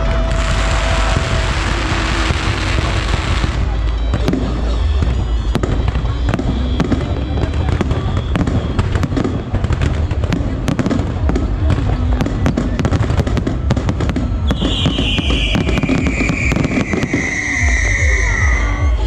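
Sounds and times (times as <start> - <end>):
descending firework whistle: 0.0 - 10.3, 12.8 - 19.0
firework bangs and crackling: 0.0 - 19.0.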